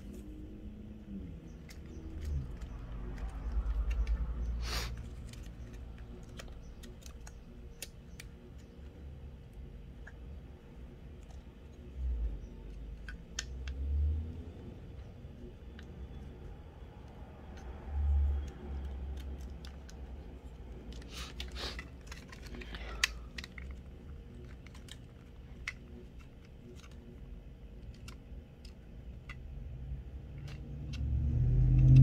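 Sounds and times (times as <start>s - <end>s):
light plastic clicks and scratches: 0.0s - 32.0s.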